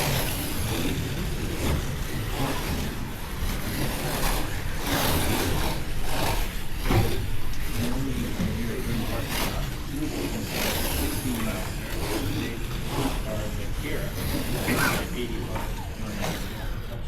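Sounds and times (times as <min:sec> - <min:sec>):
slot car motors whining: 0:00.0 - 0:17.0.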